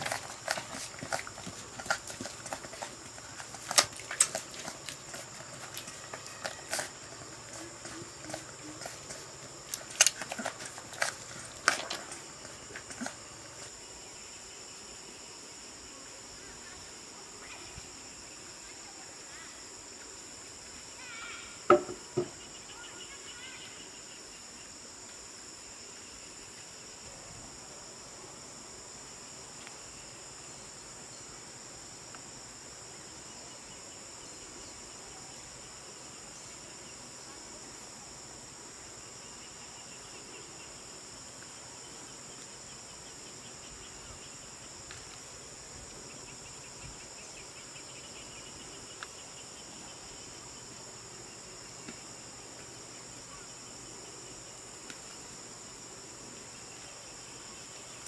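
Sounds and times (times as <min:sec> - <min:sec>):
insects chirping chorus: 0:00.0 - 0:58.0.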